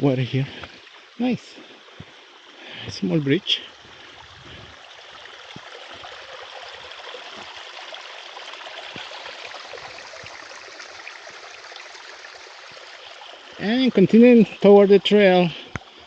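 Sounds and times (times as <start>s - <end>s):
creek running and splashing: 0.0s - 16.0s.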